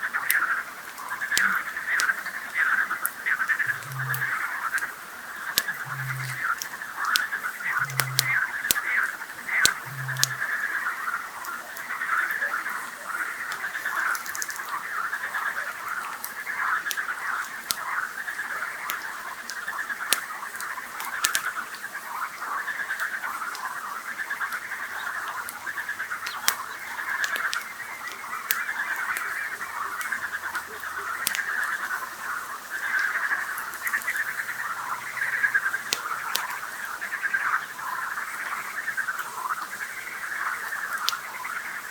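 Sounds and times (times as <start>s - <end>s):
campfire crackling: 0.0s - 41.9s
frogs calling: 0.0s - 41.9s.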